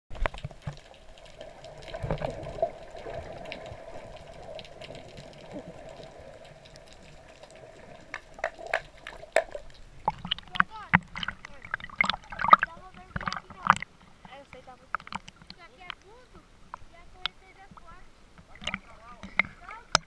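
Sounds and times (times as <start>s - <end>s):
muffled underwater water movement: 0.1s - 20.0s.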